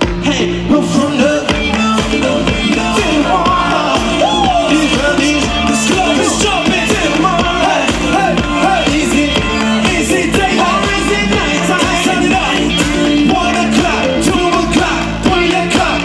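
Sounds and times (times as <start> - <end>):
loud pop music through pa: 0.0 - 16.0
man singing lead vocal: 0.0 - 16.0.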